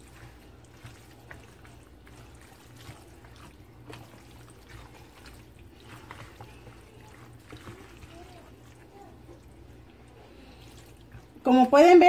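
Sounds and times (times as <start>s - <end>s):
low steady hum: 0.0s - 12.0s
spatula stirring wet salad: 0.0s - 12.0s.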